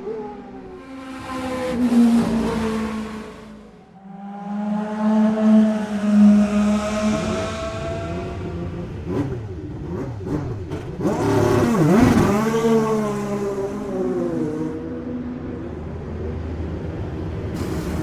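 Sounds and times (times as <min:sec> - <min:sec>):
race car engine revving: 0:00.7 - 0:18.0.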